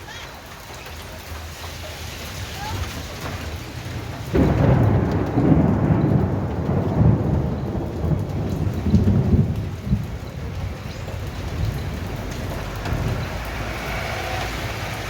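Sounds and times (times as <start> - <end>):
steady rain: 0.0 - 15.0
thunder rumbling: 0.3 - 15.0.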